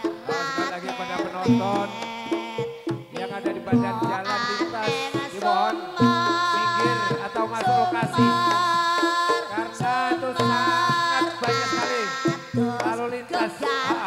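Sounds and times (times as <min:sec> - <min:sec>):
gamelan-style percussion: 0:00.0 - 0:14.0
hand drum patterns: 0:00.0 - 0:14.0.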